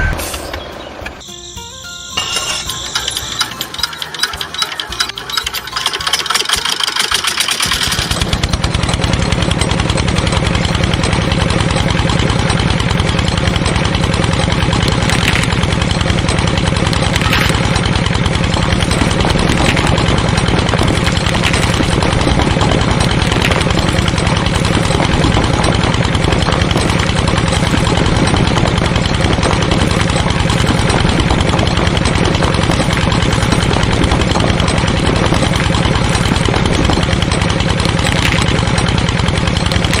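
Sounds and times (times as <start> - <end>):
small engine idling: 0.0 - 40.0.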